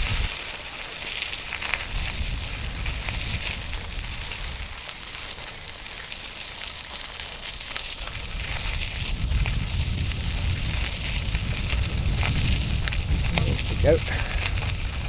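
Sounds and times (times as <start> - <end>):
bicycle tyres crunching on gravel: 0.0 - 15.0
wind rumbling on microphone: 0.0 - 15.0.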